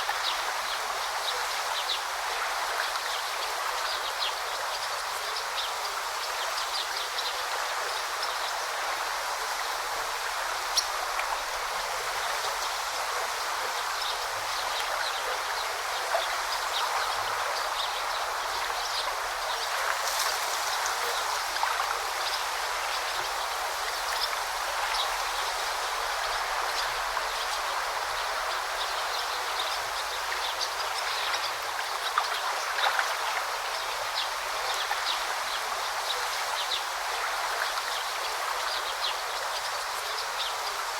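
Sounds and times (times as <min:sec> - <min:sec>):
river rushing and babbling: 0:00.0 - 0:40.9.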